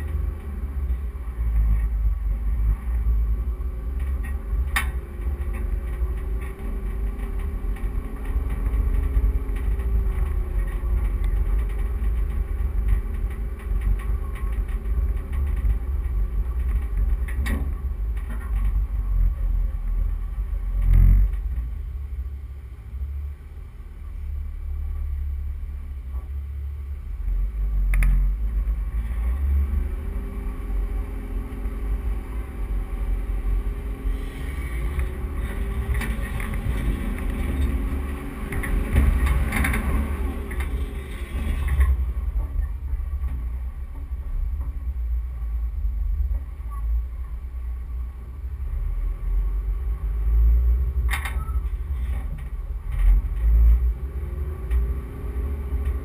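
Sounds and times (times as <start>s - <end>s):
vehicle engine working under load: 0.0s - 56.0s
wind rumble on microphone: 0.0s - 56.0s.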